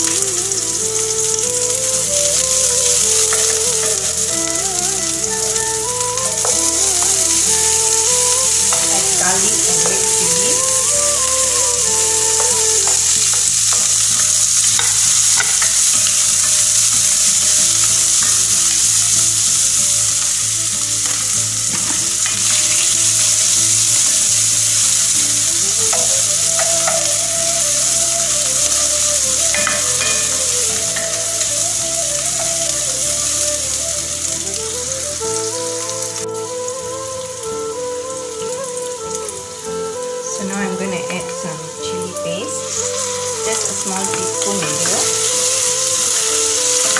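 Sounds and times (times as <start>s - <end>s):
food sizzling in hot oil: 0.0s - 46.9s.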